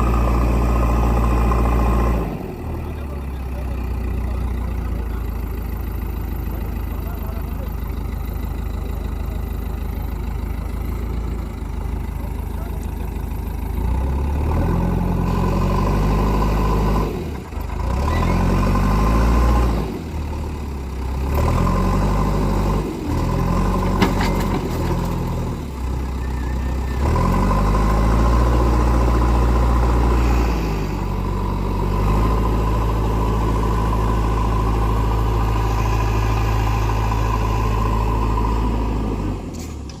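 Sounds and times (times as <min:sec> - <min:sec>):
diesel engine under varying load: 0:00.0 - 0:40.0.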